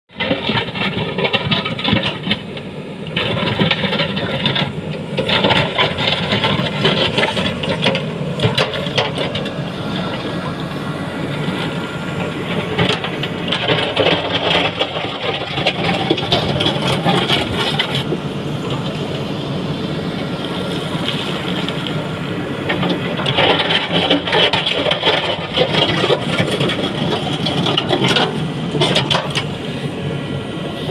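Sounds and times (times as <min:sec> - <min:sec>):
diesel engine running under load: 0:00.1 - 0:30.9
bucket scraping road surface: 0:03.2 - 0:19.2, 0:20.2 - 0:30.9.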